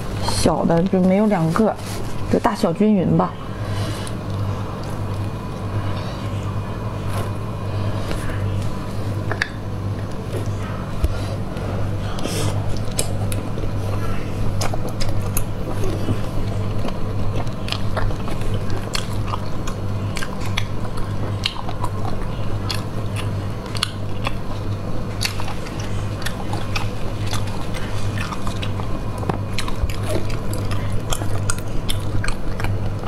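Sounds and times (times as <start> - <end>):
steady low hum: 0.0 - 33.0
wet chewing and smacking: 3.8 - 6.6, 8.1 - 33.0.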